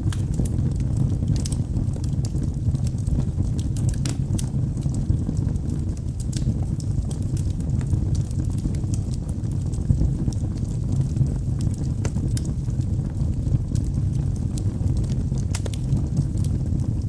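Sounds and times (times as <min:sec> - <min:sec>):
fire crackling and popping: 0:00.0 - 0:17.0
fire roaring: 0:00.0 - 0:17.0.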